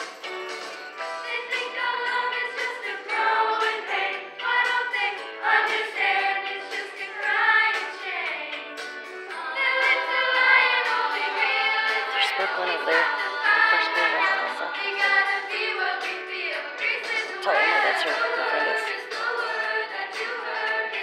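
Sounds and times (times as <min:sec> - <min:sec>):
choir singing: 0:01.3 - 0:08.6, 0:09.3 - 0:21.0.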